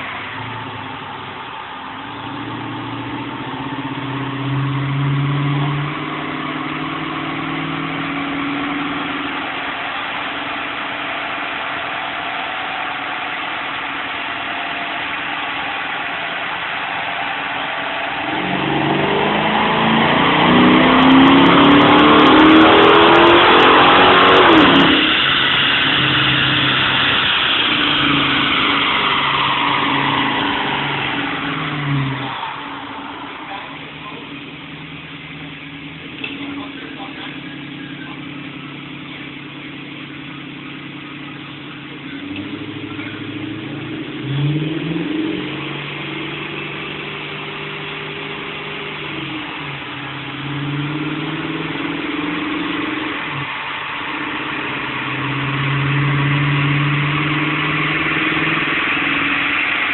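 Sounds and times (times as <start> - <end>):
car engine revving at full throttle: 0.0 - 59.9.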